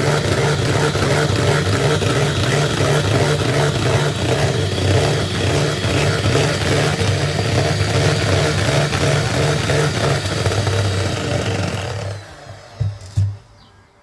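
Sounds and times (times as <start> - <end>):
electric mixer motor running: 0.0 - 13.4.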